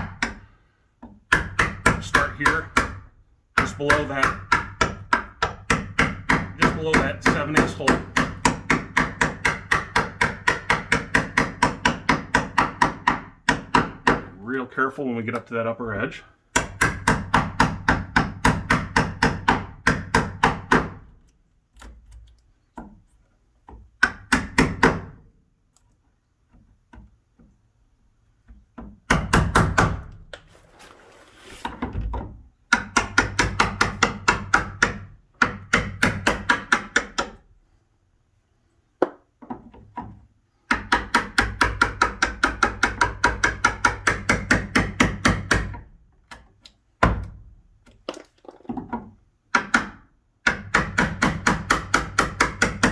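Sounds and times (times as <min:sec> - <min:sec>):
hammer tapping wood chisel: 0:00.0 - 0:15.6, 0:16.5 - 0:25.2, 0:32.1 - 0:37.4, 0:39.0 - 0:47.4, 0:48.1 - 0:52.9.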